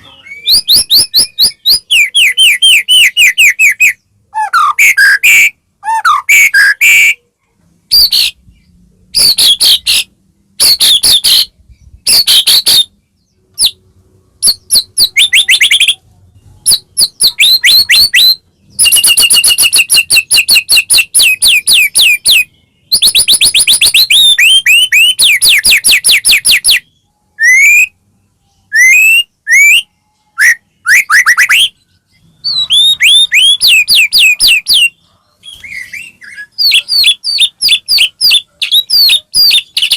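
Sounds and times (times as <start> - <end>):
songbird trilling and whistling: 0.0 - 7.2, 7.9 - 13.8, 14.4 - 39.9.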